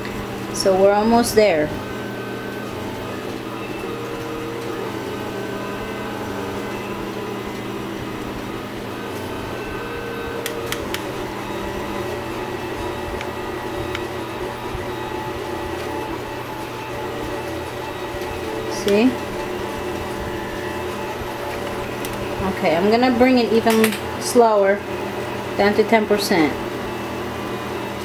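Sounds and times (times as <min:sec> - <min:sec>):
stepper motors whining: 0:00.0 - 0:28.0.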